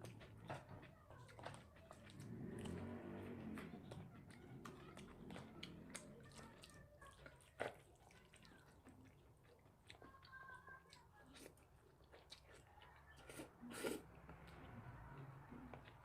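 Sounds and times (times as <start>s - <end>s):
close chewing: 0.0s - 16.0s.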